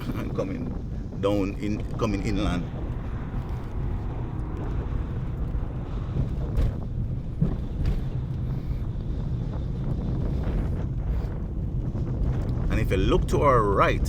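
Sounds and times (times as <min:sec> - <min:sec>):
car engine and tyre rumble: 0:00.0 - 0:14.0
wind noise on microphone: 0:00.0 - 0:14.0.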